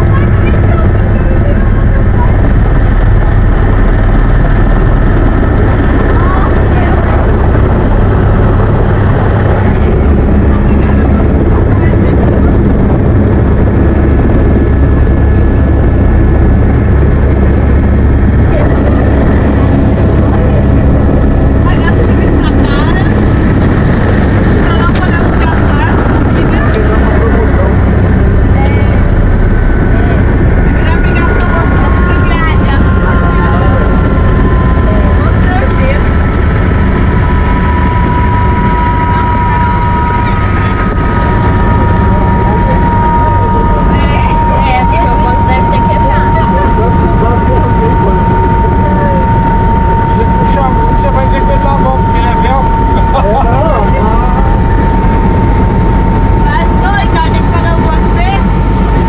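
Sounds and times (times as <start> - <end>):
helicopter rotor and engine drone: 0.0 - 59.0
thin steady whine: 0.0 - 59.0.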